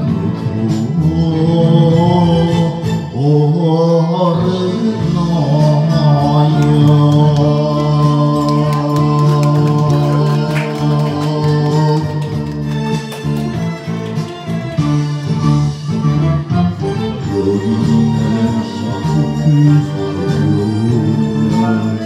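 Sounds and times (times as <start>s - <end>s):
man singing into a microphone: 0.0s - 12.6s, 16.7s - 22.0s
karaoke backing track: 0.0s - 22.0s.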